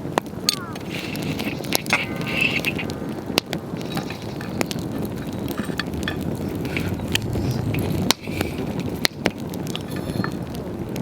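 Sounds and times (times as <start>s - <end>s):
campfire crackling and popping: 0.0s - 11.0s
low noise of burning fire: 0.0s - 11.0s.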